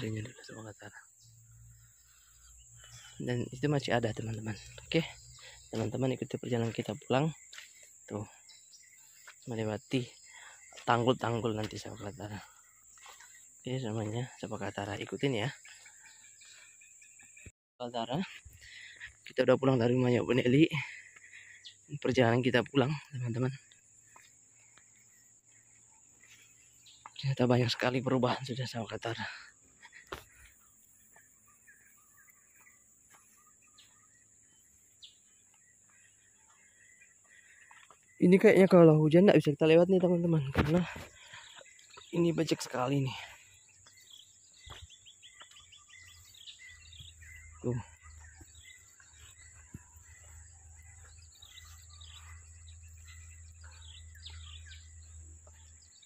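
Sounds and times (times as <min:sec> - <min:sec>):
faint bird chirps: 0:00.0 - 0:56.0.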